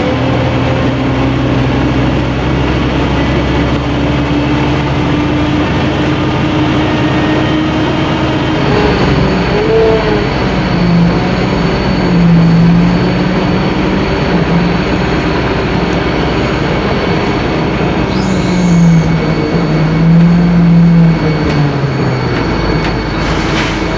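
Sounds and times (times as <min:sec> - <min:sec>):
diesel bus engine drone: 0:00.0 - 0:23.9
faint high whine: 0:03.1 - 0:23.9.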